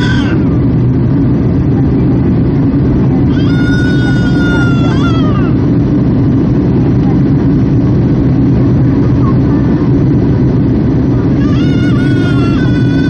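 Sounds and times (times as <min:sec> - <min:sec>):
jet engines roaring in cabin: 0:00.0 - 0:13.0.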